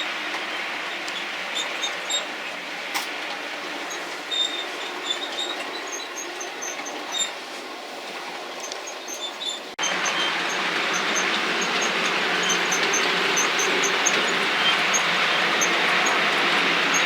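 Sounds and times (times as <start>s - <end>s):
model train rolling on track: 0.0s - 17.0s
wheels squeaking: 0.0s - 17.0s.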